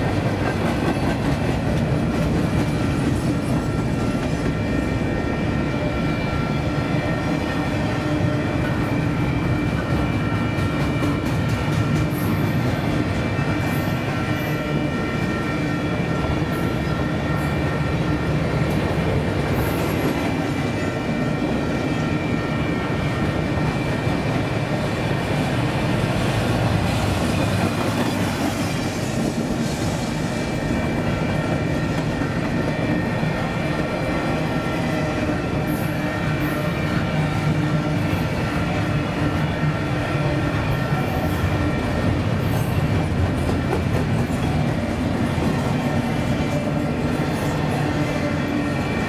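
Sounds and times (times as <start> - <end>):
steel wheels rumbling on rails: 0.0 - 49.0.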